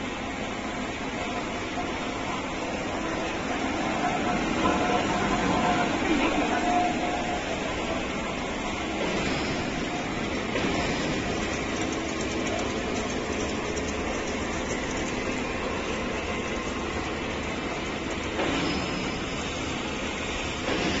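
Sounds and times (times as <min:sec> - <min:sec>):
factory machinery running: 0:00.0 - 0:21.0.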